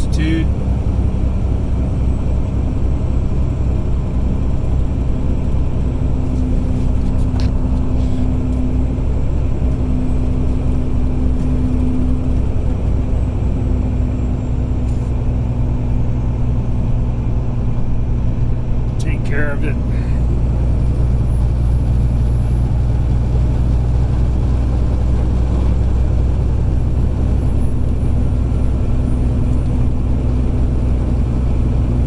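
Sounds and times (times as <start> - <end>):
road noise: 0.0 - 32.0
truck diesel engine drone: 0.0 - 32.0.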